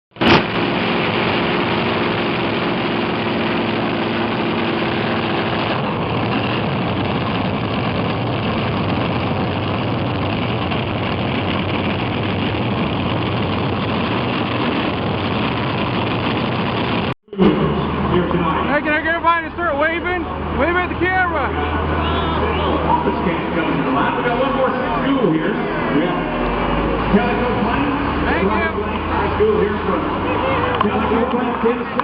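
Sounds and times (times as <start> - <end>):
steady pitched tone: 0.1 - 32.0
tractor engine running: 0.1 - 32.0.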